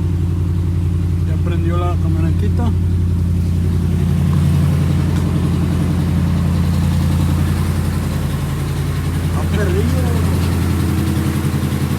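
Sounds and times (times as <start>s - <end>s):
pickup engine idling: 0.0s - 11.9s.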